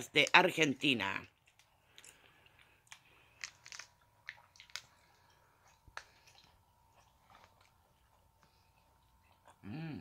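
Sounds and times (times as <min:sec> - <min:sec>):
faint steady hum: 0:00.0 - 0:10.0
gummy candies being chewed: 0:00.2 - 0:10.0.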